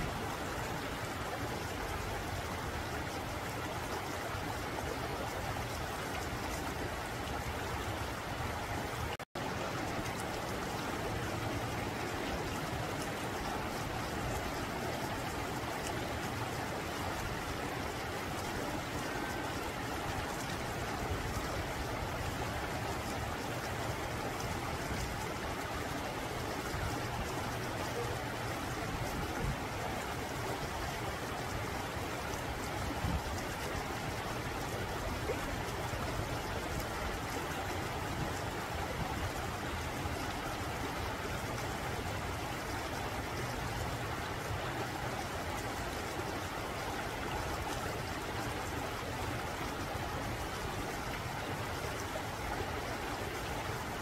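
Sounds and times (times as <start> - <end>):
mountain stream rushing over rocks: 0.0 - 54.0.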